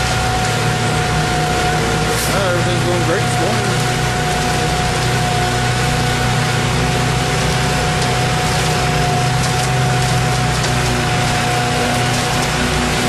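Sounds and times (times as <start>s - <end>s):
construction engines droning: 0.0s - 13.0s
steady high whine: 0.0s - 13.0s.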